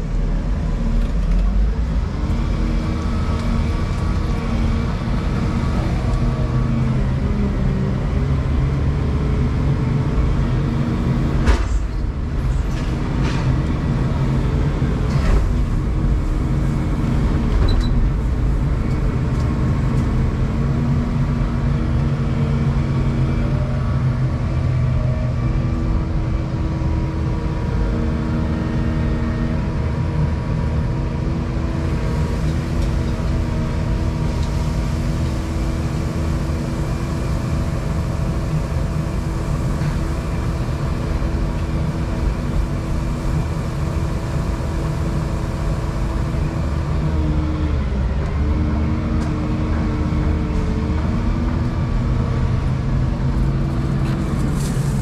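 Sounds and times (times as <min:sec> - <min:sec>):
diesel engine and hydraulics working: 0:00.0 - 0:55.0.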